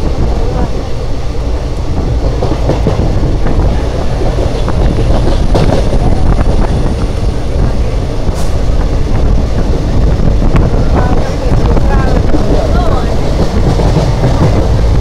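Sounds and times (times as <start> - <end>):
train wheels rumbling on rails: 0.0 - 15.0
wind on microphone: 0.0 - 15.0.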